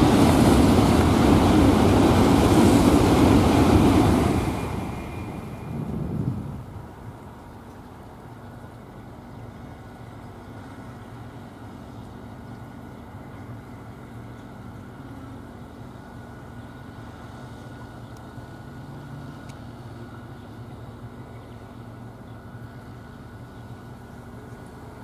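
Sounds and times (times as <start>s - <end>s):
distant traffic rumble: 0.0s - 25.0s.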